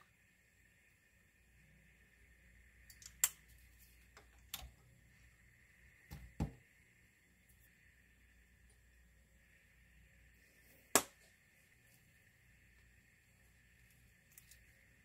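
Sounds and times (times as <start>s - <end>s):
faint steady high whine: 0.0s - 15.0s.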